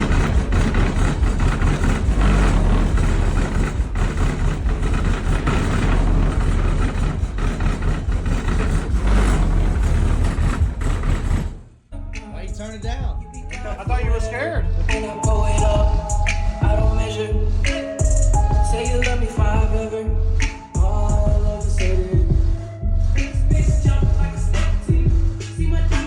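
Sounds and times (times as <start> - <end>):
harsh distorted noise: 0.0 - 11.8, 12.5 - 26.0
loud subwoofer bass: 0.0 - 26.0.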